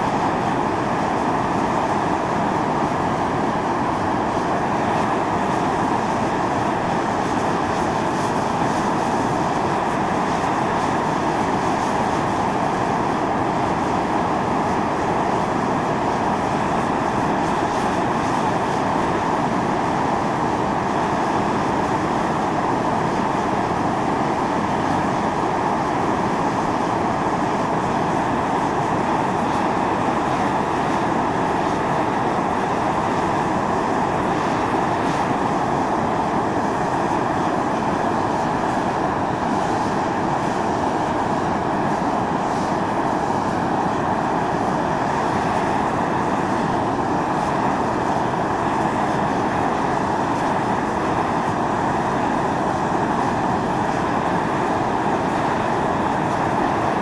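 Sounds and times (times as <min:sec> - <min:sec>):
steam venting hiss: 0:00.0 - 0:57.0.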